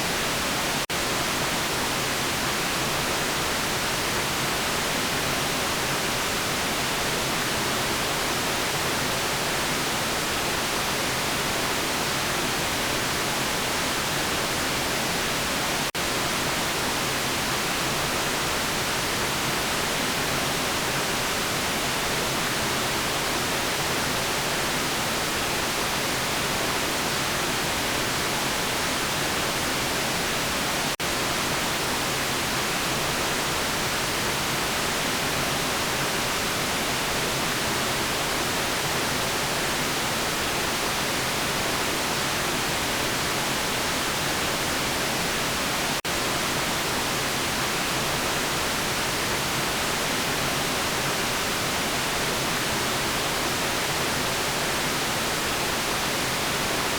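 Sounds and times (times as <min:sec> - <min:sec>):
white noise hiss: 0:00.0 - 0:56.9.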